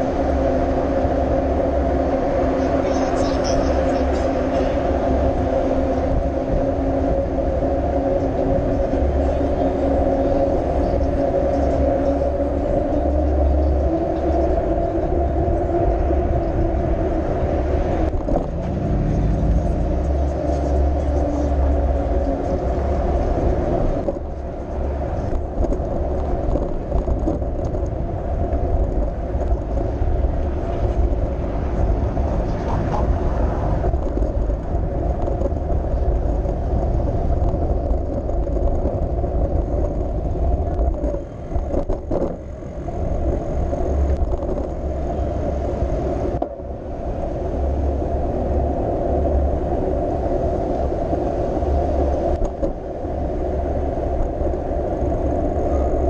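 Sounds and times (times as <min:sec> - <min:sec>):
light car traffic: 0:00.0 - 0:56.0
road noise: 0:00.0 - 0:56.0
wind rumble: 0:00.0 - 0:56.0.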